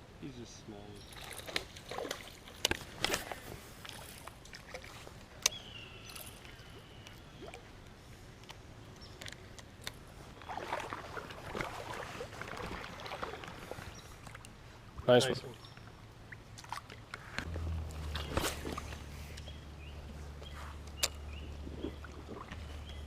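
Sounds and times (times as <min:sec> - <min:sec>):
creek water splashing: 0:01.0 - 0:07.8, 0:10.0 - 0:23.0.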